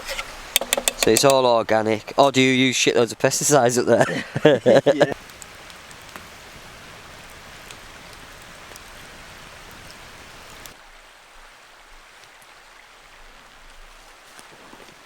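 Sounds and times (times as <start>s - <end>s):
campfire hissing and crackling: 0.0s - 15.0s.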